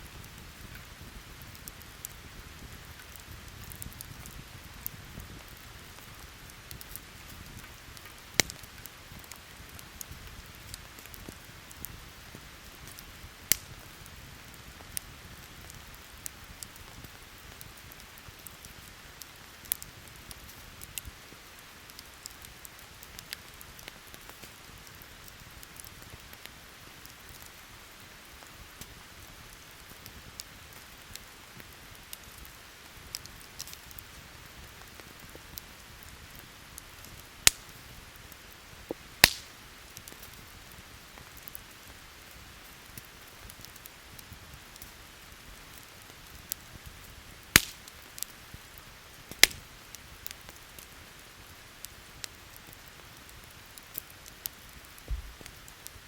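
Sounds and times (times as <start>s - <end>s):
campfire crackling and popping: 0.0s - 56.0s
steady rain falling: 0.0s - 56.0s.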